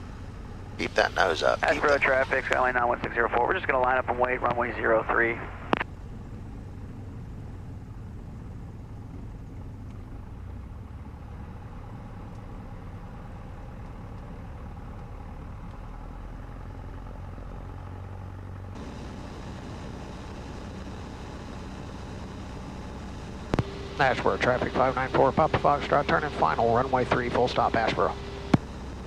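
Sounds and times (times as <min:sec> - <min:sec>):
airplane engine drone: 0:00.0 - 0:29.0
propeller hum: 0:00.0 - 0:29.0.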